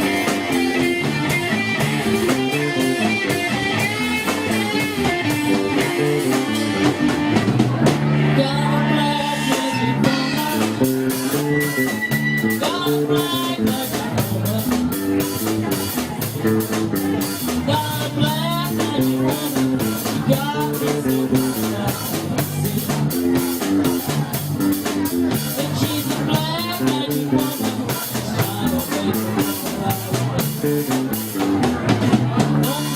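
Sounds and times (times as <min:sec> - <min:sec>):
drum kit beat: 0:00.0 - 0:32.9
electric guitar with string bends: 0:00.0 - 0:32.9
walking bass line: 0:00.0 - 0:32.9.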